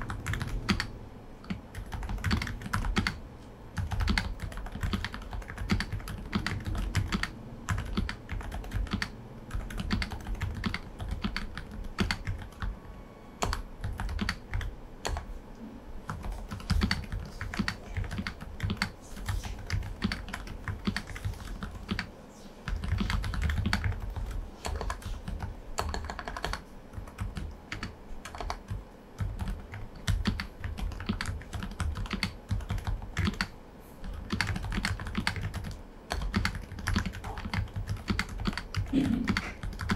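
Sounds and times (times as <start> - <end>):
soft keyboard typing: 0.0 - 3.2, 3.8 - 15.4, 16.0 - 39.9.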